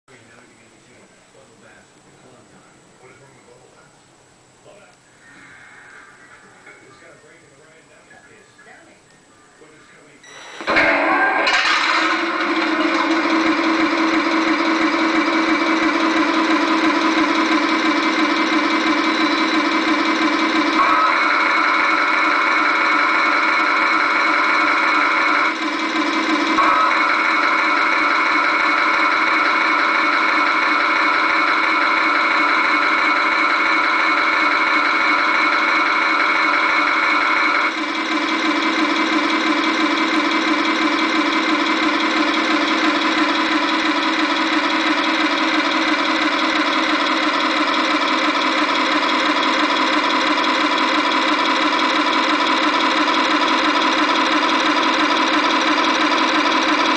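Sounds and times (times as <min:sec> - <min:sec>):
toy tank engine sound idling: 0:10.2 - 0:56.9.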